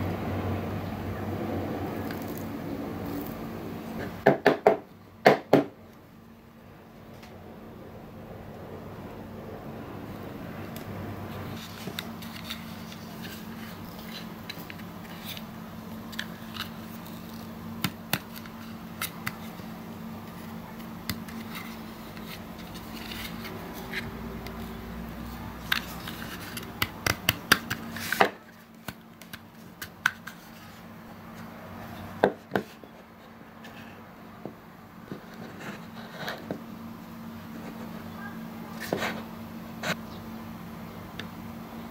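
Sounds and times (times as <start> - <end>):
steady low hum: 0.0 - 4.3, 4.9 - 41.9.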